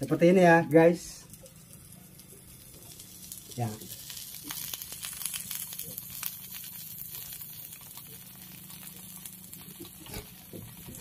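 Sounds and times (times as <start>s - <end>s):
fish sizzling in a grill pan: 0.0s - 11.0s.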